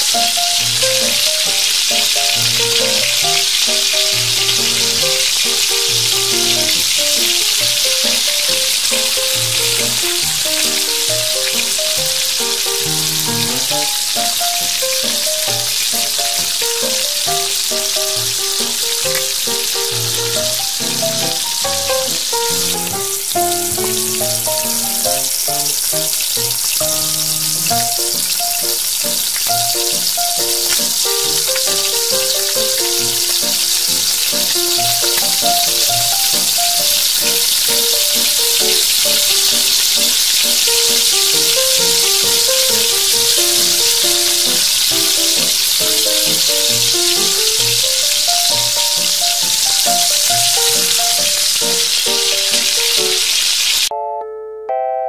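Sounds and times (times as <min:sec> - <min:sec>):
oil sizzling: 0:00.0 - 0:53.9
background music with melody: 0:00.0 - 0:55.0.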